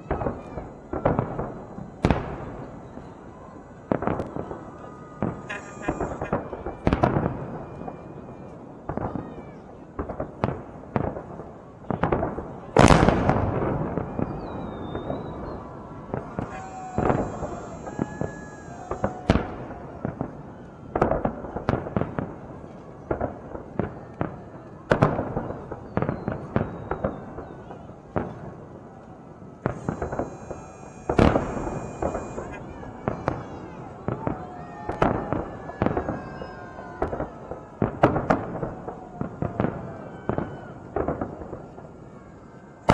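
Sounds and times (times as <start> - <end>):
fireworks bangs echoing: 0.0 - 42.9.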